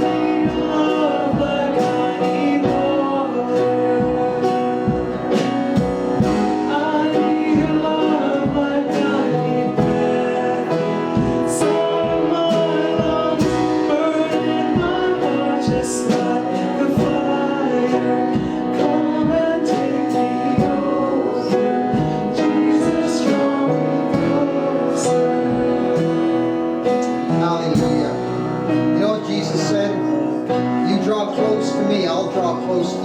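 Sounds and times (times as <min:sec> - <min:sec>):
person singing: 0:00.0 - 0:33.0
worship band with guitar and beat: 0:00.0 - 0:33.0.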